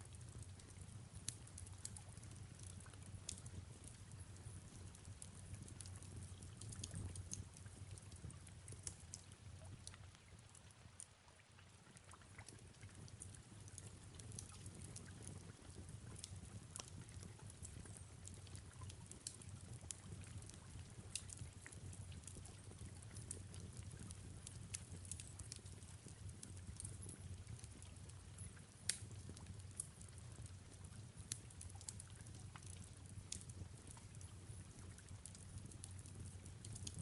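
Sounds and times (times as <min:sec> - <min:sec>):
wood fire crackling: 0:00.0 - 0:10.6, 0:11.3 - 0:37.0
rain pattering: 0:00.0 - 0:37.0.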